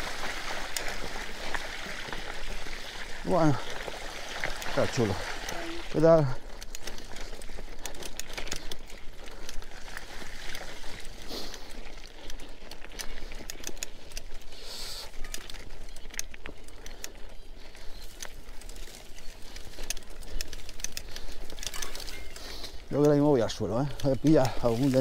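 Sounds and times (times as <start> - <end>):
bike clicks and rattles: 0.0 - 25.0
bike tyres rolling on trail: 0.0 - 25.0.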